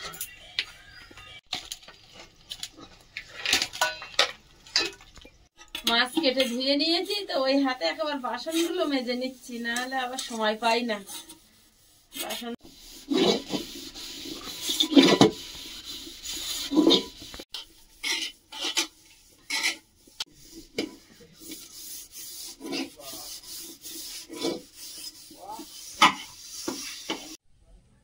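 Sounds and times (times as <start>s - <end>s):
scouring pad scrubbing metal pots: 0.0s - 27.4s.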